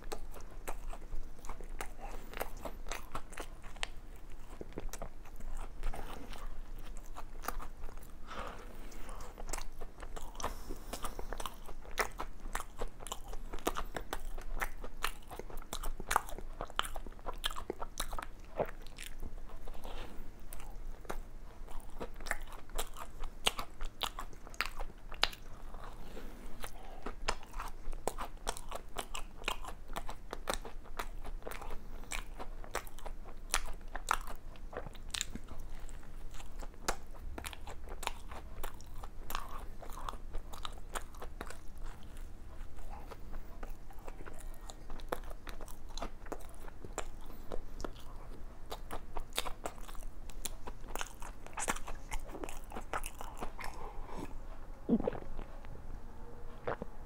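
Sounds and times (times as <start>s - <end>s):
biting and chewing crunchy food: 0.0s - 55.8s, 56.5s - 57.0s.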